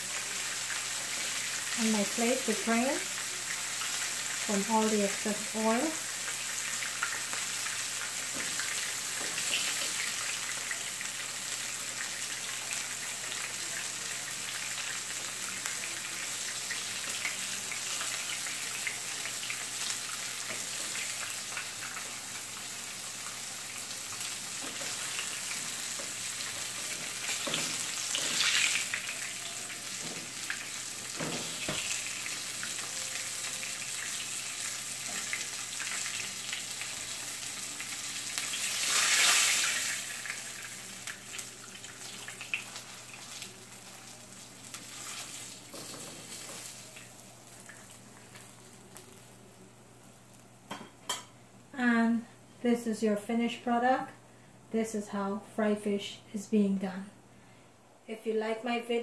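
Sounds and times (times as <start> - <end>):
fish frying in hot oil: 0.0 - 49.7.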